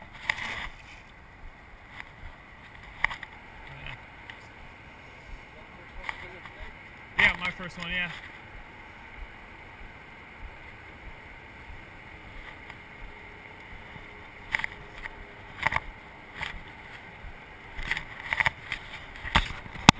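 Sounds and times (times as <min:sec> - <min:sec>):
road traffic: 0:00.0 - 0:19.8
wind: 0:00.0 - 0:19.9.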